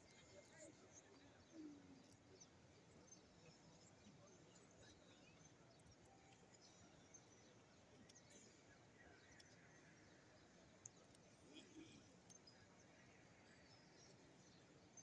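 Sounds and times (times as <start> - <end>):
faint crowd ambience: 0.0 - 15.0.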